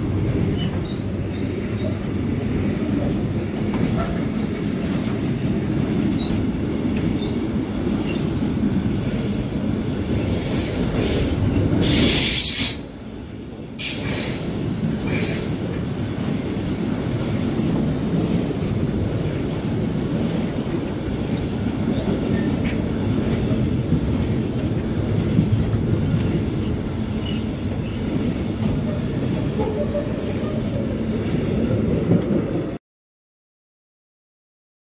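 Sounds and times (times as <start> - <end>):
freight wagon wheels rumbling on rail: 0.0 - 32.8.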